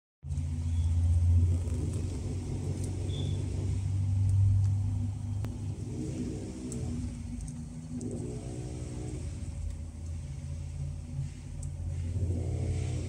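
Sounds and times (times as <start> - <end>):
mechanical hum and rumble: 0.2 - 13.0.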